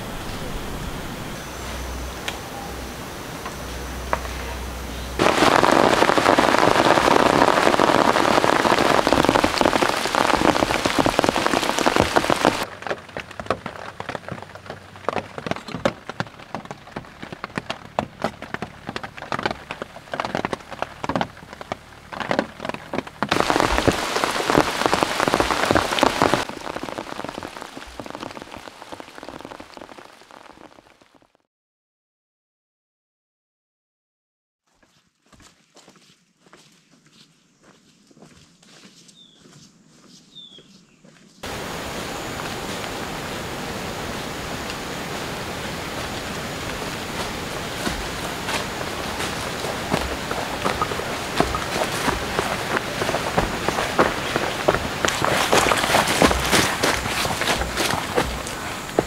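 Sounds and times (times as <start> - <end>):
heavy rain pattering: 0.0 - 31.2, 41.4 - 59.0.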